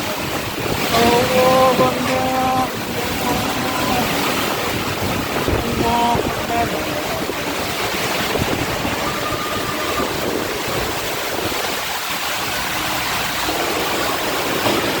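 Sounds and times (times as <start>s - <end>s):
strong storm wind: 0.0s - 15.0s.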